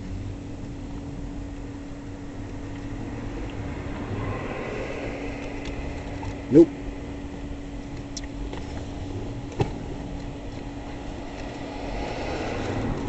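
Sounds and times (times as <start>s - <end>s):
faint steady hum: 0.0s - 13.0s
low background rumble: 0.0s - 13.0s.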